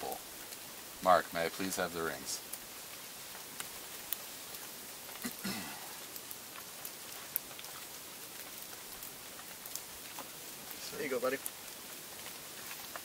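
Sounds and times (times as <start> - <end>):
light rain falling: 0.0 - 13.0.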